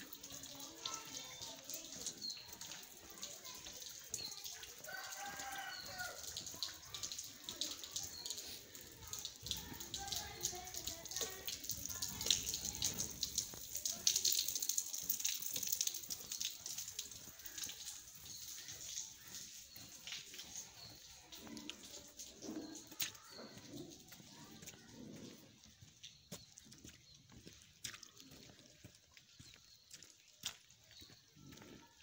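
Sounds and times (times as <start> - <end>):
light rain pattering: 0.0 - 32.0
water dripping on wet concrete: 0.0 - 32.0.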